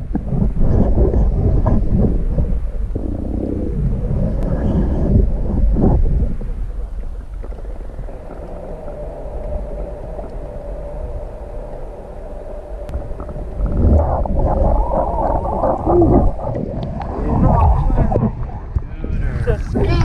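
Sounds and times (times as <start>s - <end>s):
muffled underwater rumble: 0.0s - 20.0s.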